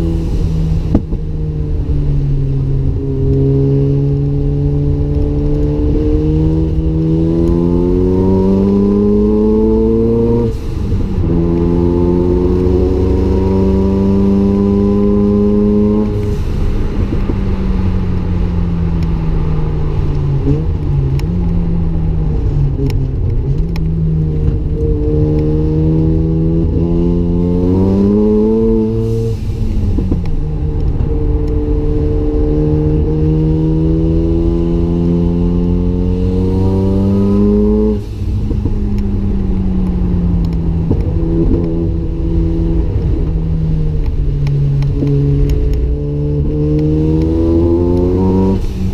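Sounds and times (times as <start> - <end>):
rotary engine accelerating: 0.9 - 48.9.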